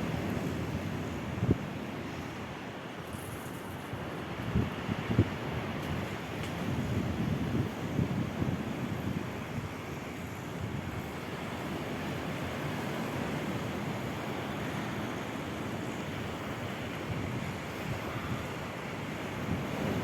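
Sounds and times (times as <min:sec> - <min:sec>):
sea surf washing on shore: 0:00.0 - 0:20.0
wind rumbling on microphone: 0:00.0 - 0:20.0.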